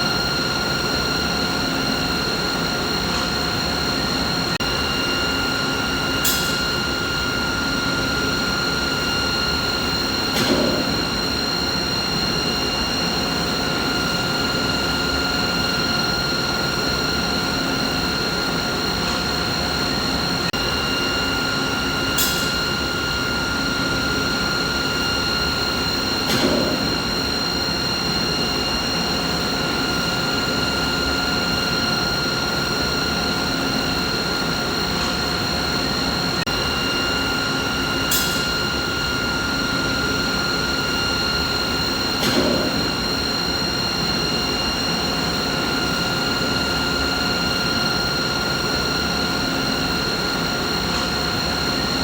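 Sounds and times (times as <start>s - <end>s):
machinery hum with high whine: 0.0s - 52.0s.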